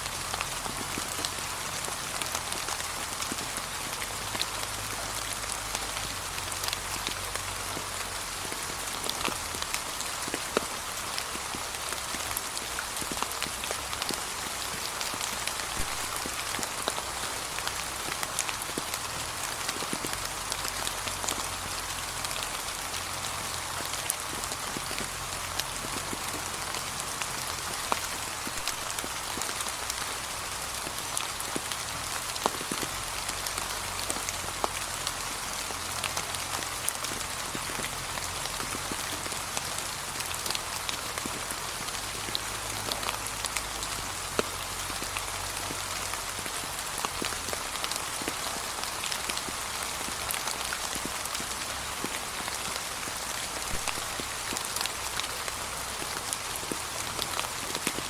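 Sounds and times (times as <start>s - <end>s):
rain on leaves: 0.0s - 58.0s.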